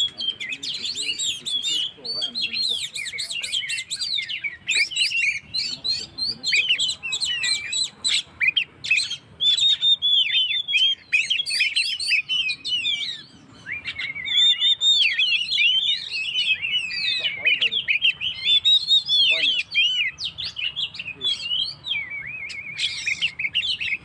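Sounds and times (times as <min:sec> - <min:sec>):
songbird singing varied whistles: 0:00.0 - 0:24.0.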